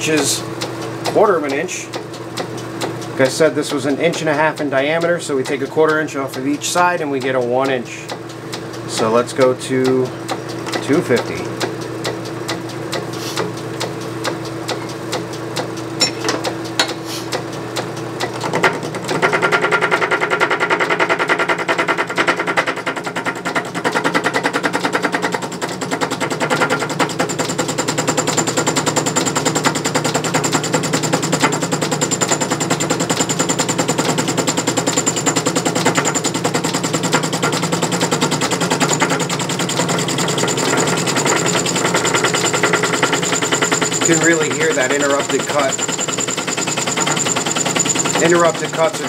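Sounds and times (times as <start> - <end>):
lathe motor hum: 0.0 - 49.0
lathe tool clattering on metal: 0.1 - 49.0.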